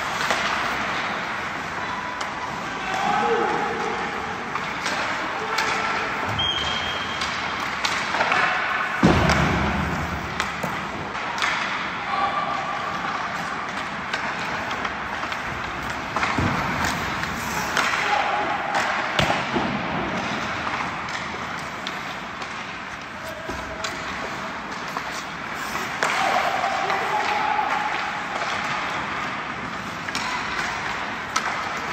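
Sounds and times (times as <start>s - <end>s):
pucks clacking off sticks: 0.0s - 12.0s, 12.6s - 31.9s
skates scraping ice: 0.0s - 31.9s.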